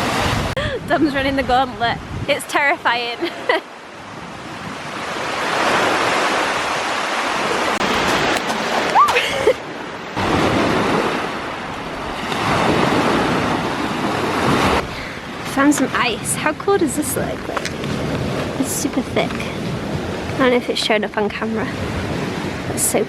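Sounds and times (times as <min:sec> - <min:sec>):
waves washing onto beach: 0:00.0 - 0:23.0.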